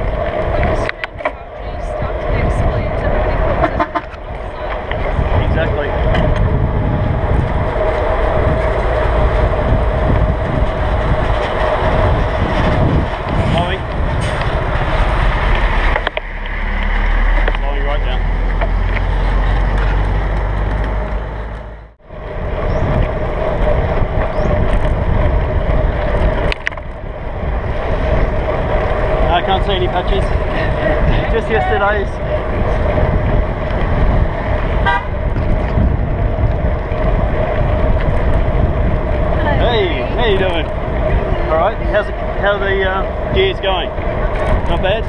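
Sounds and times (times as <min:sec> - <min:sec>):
bicycle road noise: 0:00.0 - 0:45.0
wind buffeting microphone: 0:00.0 - 0:45.0.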